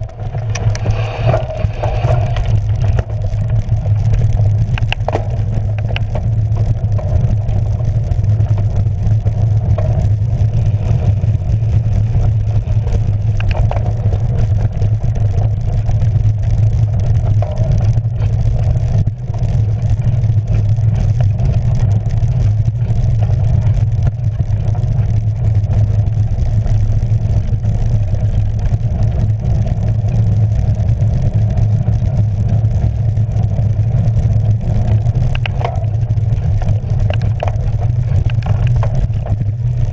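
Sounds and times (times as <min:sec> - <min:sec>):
bike rumbling over rough track: 0:00.0 - 0:39.9
wind buffeting camera: 0:00.0 - 0:39.9.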